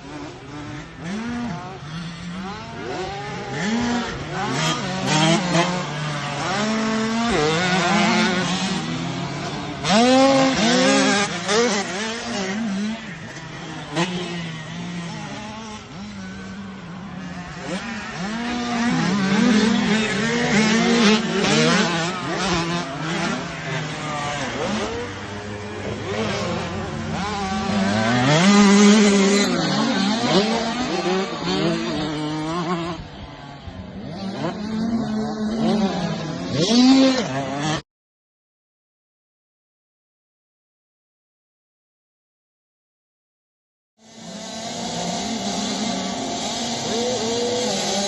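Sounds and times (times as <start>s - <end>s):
motocross bike engines revving: 0.0s - 37.8s, 44.0s - 48.0s.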